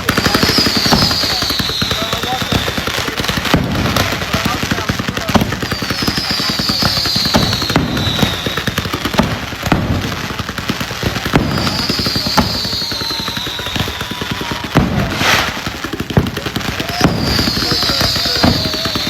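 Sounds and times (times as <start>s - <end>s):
fireworks bangs and crackle: 0.0s - 19.0s
fireworks whistles falling in pitch: 0.0s - 19.0s.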